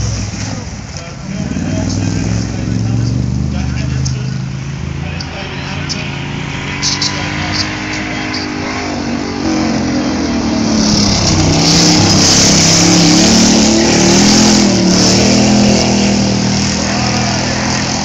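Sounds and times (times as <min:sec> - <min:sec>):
race car engine revving past: 0:01.3 - 0:18.0.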